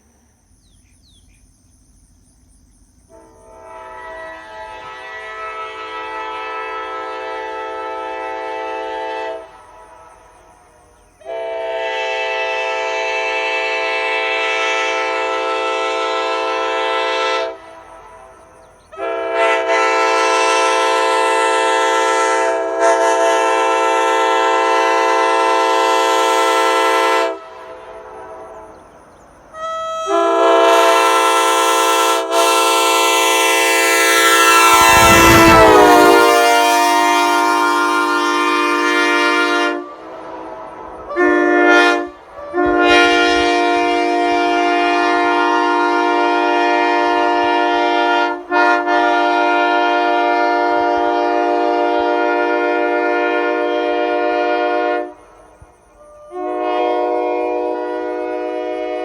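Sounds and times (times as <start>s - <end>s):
locomotive air horn blasts: 3.1s - 28.9s, 29.5s - 55.4s, 56.0s - 59.0s.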